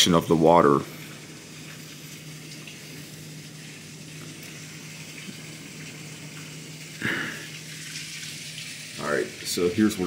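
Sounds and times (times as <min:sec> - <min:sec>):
steady low hum: 0:00.0 - 0:10.0
heavy rain pouring into water: 0:00.9 - 0:10.0.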